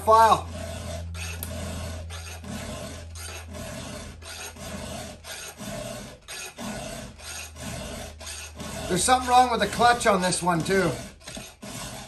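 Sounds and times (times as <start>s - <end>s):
hand file rasping on chain: 0.0s - 12.0s.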